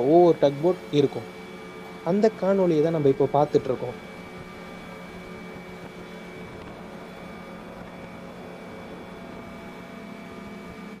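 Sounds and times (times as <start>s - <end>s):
high whine: 0.0s - 11.0s
ship engine hum: 0.0s - 11.0s.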